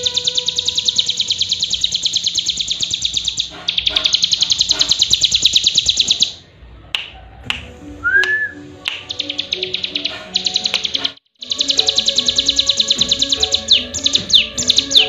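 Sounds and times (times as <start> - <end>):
bird singing high rapid trill: 0.0 - 6.5, 8.4 - 15.0.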